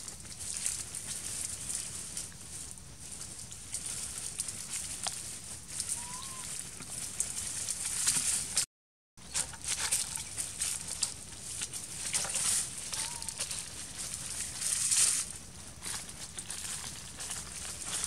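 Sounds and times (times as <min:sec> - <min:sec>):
dry leaf litter crackling: 0:00.0 - 0:08.6, 0:09.2 - 0:18.0.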